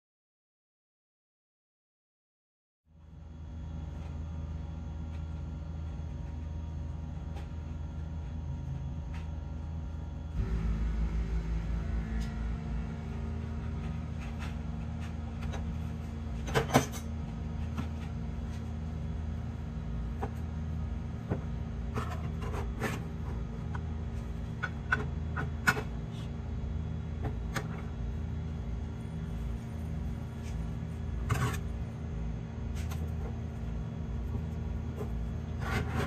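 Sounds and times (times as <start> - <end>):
steady low hum: 2.9 - 36.0.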